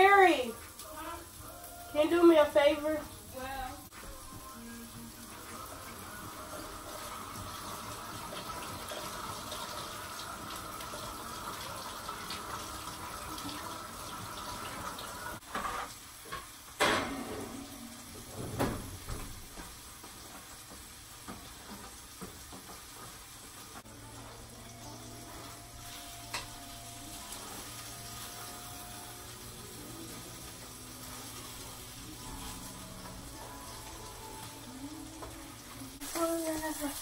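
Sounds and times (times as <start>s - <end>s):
tap water running: 2.0s - 37.0s.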